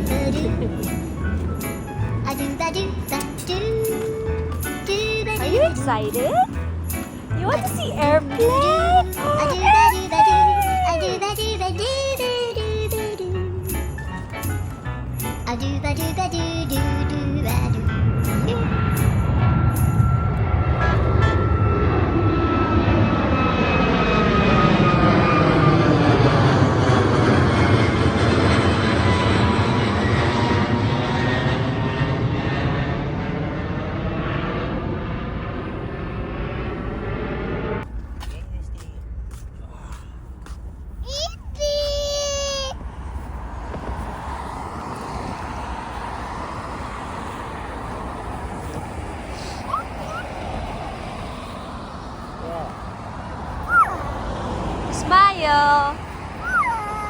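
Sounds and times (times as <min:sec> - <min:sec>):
airliner engine rush: 0:00.0 - 0:57.0
faint jet whine: 0:00.0 - 0:57.0.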